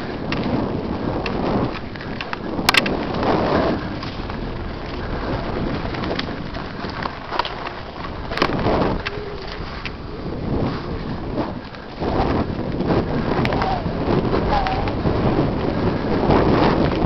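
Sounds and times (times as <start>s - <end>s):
bike clicks and rattles: 0.0s - 17.0s
tyres running over dirt and rock: 0.0s - 17.0s
wind rumbling on microphone: 0.0s - 17.0s.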